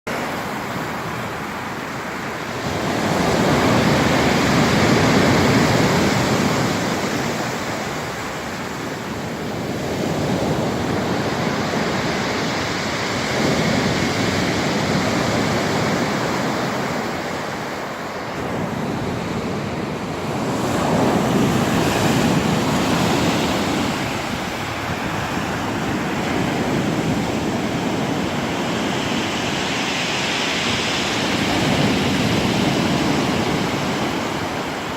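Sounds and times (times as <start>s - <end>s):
waves breaking on shore: 0.1s - 34.9s.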